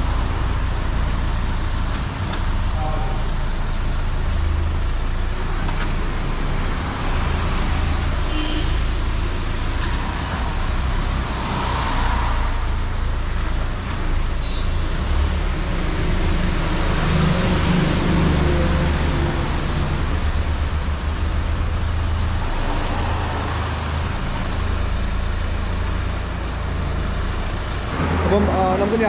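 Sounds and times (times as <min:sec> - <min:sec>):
low rumble of traffic: 0:00.0 - 0:29.0.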